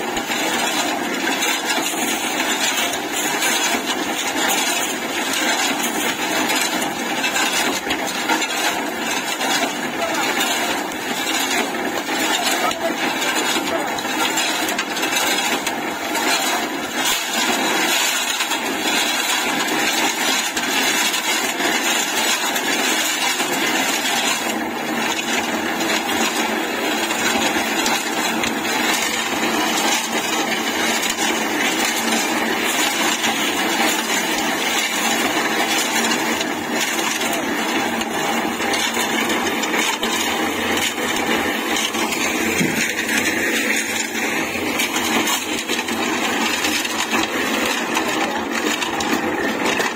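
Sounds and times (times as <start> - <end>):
concrete mixer running: 0.0 - 49.9.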